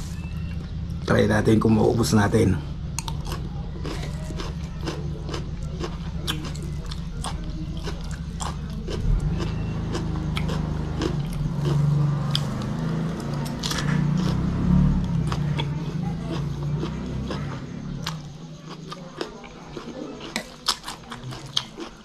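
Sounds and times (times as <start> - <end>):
steady low hum: 0.0 - 22.0
crisp chewing crunches: 2.9 - 22.0.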